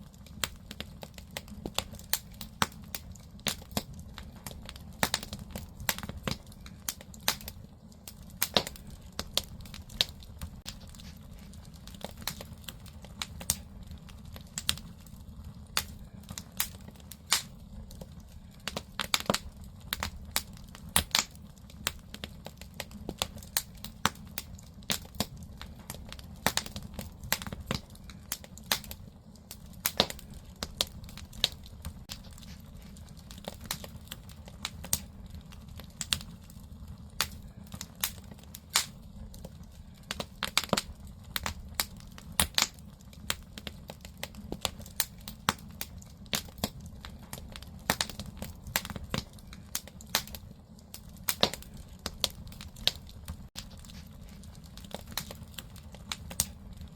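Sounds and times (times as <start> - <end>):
firewood crackling and popping: 0.0 - 56.9
low fire rumble: 0.0 - 56.9.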